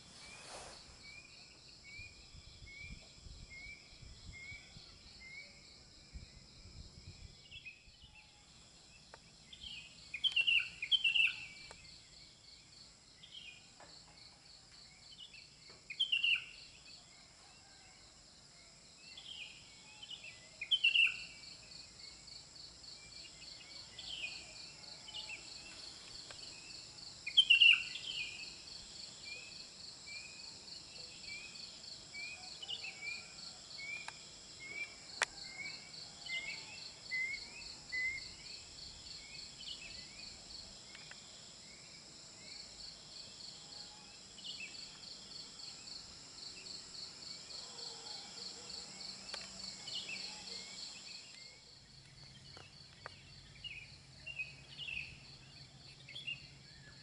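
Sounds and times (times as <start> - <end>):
high insect drone with pulsing trill: 1.0 - 57.0.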